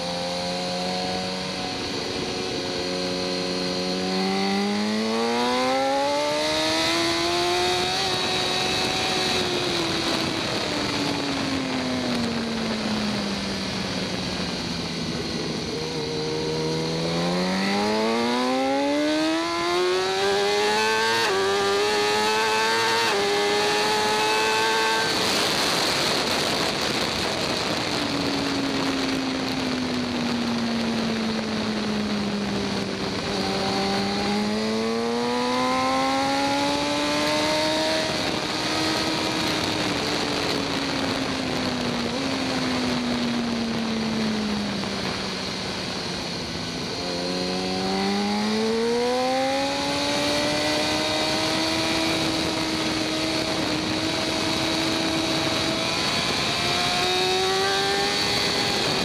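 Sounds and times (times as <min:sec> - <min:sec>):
loud wind noise: 0:00.0 - 0:59.0
motorcycle engine at racing speed: 0:00.0 - 0:59.0.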